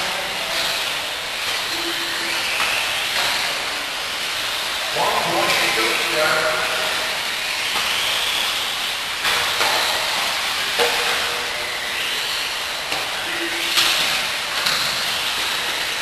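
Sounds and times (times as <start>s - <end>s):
high motor whines: 0.0s - 16.0s
rc car motors hissing: 0.0s - 16.0s.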